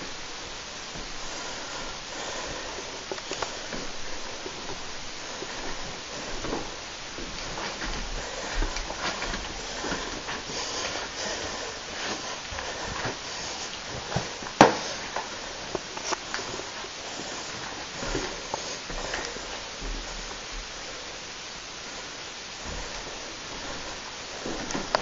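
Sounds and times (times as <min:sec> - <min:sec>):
footsteps in a house: 0:00.0 - 0:25.0
steady hiss: 0:00.0 - 0:25.0.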